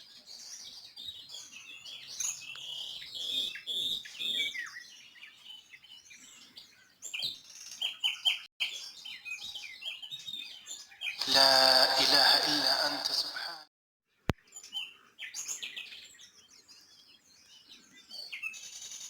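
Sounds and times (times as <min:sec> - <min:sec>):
small birds chirping: 0:00.0 - 0:11.2, 0:14.2 - 0:19.0.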